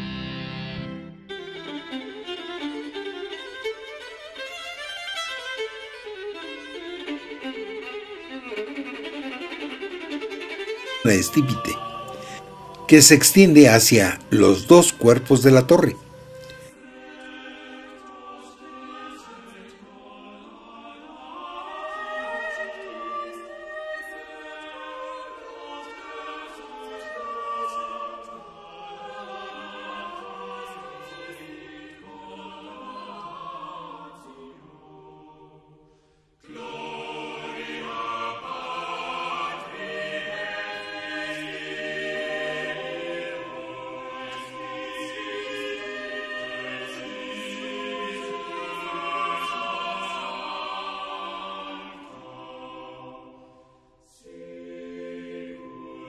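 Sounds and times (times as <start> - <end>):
choir singing sustained chords: 0.0 - 3.8, 6.5 - 56.0.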